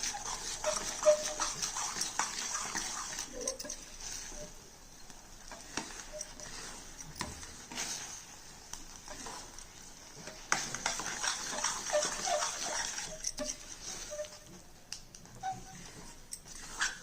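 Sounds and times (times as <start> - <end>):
thick mixture sizzling and stirred: 0.0 - 17.0.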